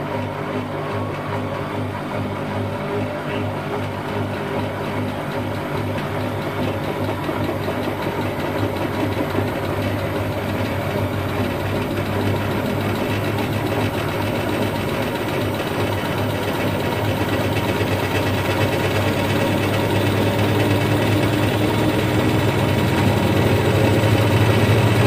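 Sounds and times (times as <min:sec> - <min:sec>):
washing machine spinning: 0:00.0 - 0:25.0.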